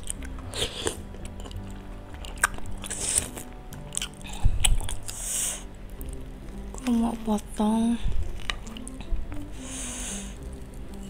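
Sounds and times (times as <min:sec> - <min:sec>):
background music: 0:00.0 - 0:11.0
close chewing: 0:00.0 - 0:11.0.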